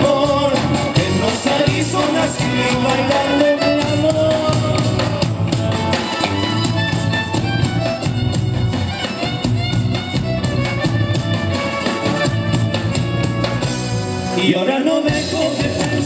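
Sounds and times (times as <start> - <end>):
acoustic guitar: 0.0 - 16.0
electric bass: 0.0 - 16.0
live band playing: 0.0 - 16.0.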